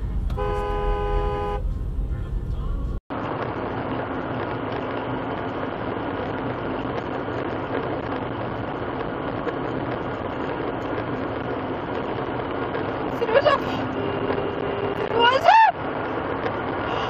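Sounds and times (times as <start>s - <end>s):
car engine and tyres droning: 0.0s - 17.0s.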